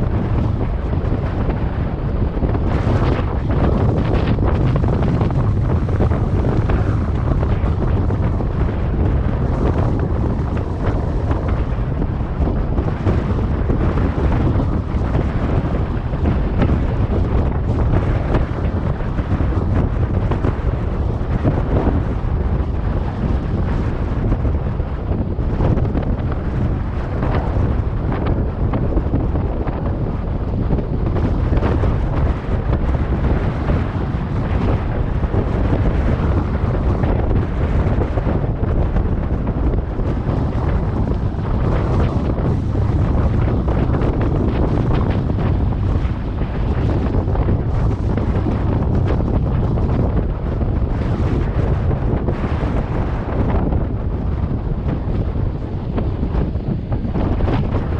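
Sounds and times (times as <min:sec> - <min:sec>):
wind blowing across microphone: 0:00.0 - 0:57.9.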